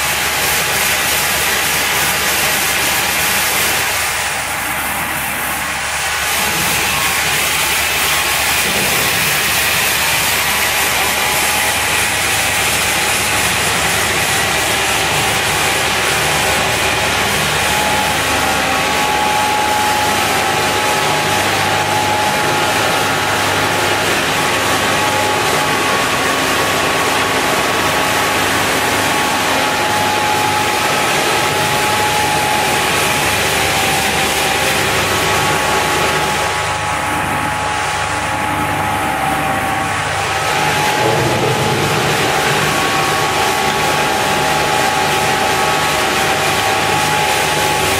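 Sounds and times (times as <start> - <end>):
machine whining tones: 0.0 - 47.9
extruder and motors droning: 1.9 - 47.9.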